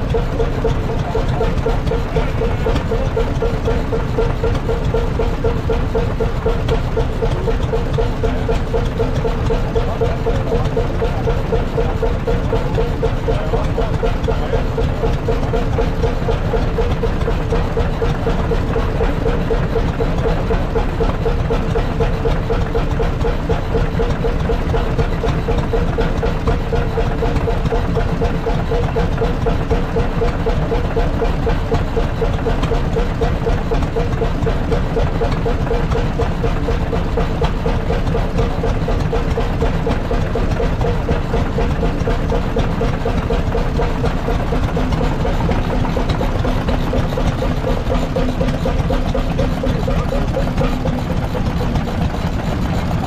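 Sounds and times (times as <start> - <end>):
hot bulb engine running slowly: 0.0 - 53.0.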